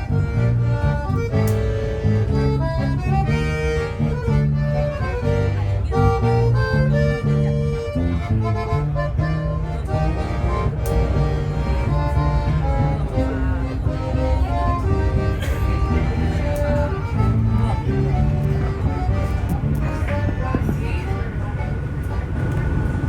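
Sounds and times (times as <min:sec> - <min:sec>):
free-reed instrument playing: 0:00.0 - 0:21.9.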